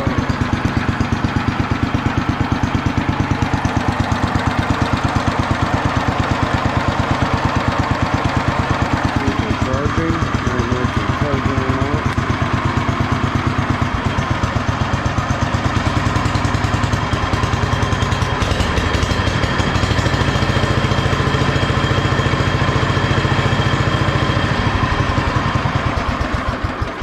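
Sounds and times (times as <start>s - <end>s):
single-cylinder engine idling: 0.0s - 27.0s.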